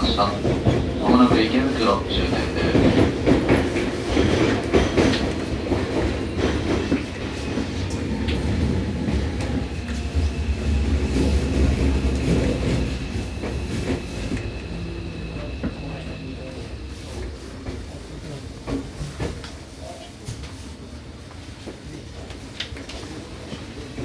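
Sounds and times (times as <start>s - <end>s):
train running rumble: 0.0s - 20.4s.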